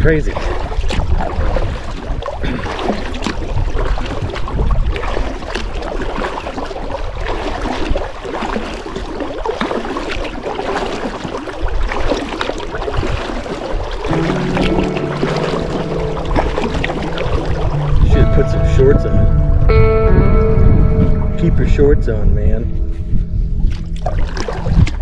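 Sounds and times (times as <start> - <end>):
paddle splashing in water: 0.0 - 18.5, 22.9 - 25.0
water gurgling along hull: 0.0 - 19.8, 20.7 - 25.0.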